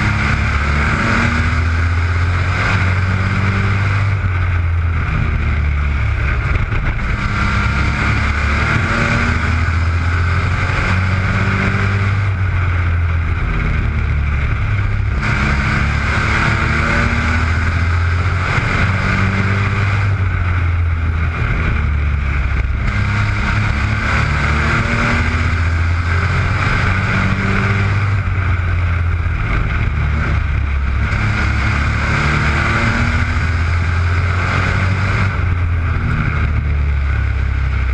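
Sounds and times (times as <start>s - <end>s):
racing truck engines: 0.0s - 37.9s.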